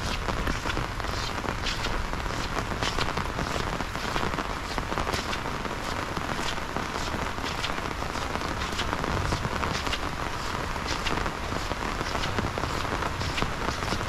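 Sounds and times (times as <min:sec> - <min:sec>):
heavy rain hiss: 0:00.0 - 0:14.0
raindrops tapping: 0:00.0 - 0:14.0.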